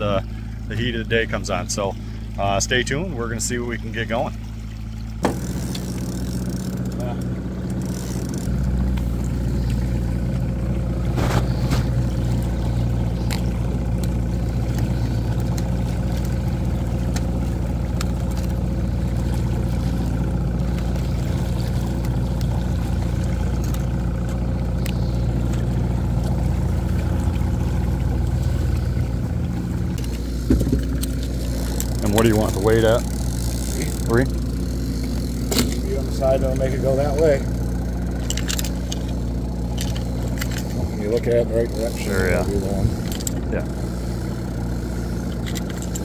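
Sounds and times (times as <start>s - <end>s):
outboard motor humming: 0.0s - 46.0s.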